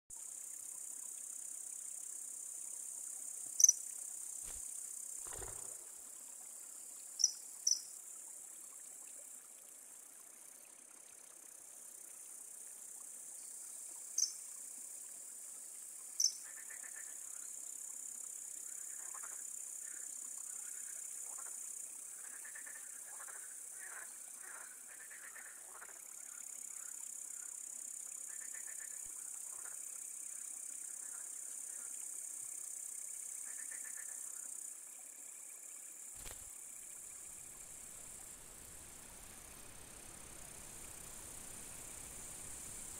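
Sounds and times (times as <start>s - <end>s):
insects chirring: 0.2s - 42.9s.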